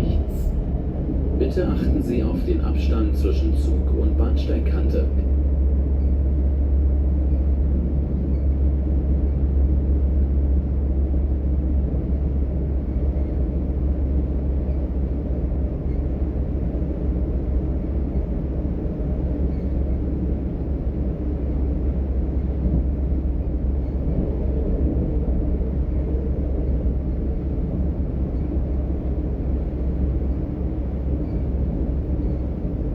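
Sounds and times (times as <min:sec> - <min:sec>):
train rumbling on track: 0:00.0 - 0:32.9.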